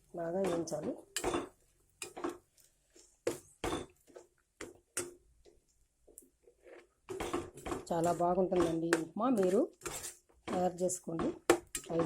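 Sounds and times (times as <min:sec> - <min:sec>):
spoon scraping a pan: 0:00.4 - 0:05.2, 0:06.3 - 0:12.0.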